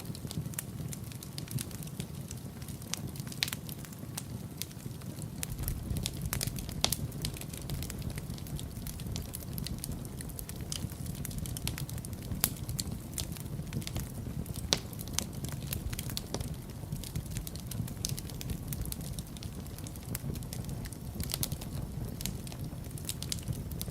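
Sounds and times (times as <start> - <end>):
fire crackling and popping: 0.0 - 23.9
fire flames rumbling: 0.0 - 23.9.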